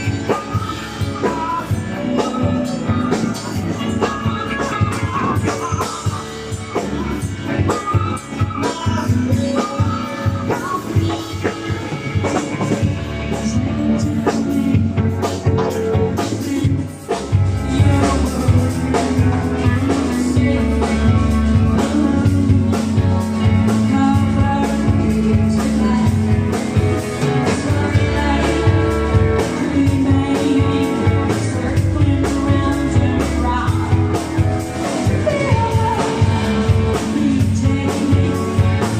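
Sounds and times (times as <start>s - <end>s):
drum kit: 0.0s - 38.9s
guitar: 0.0s - 38.9s
person singing: 0.0s - 38.9s
rock band playing: 0.0s - 38.9s.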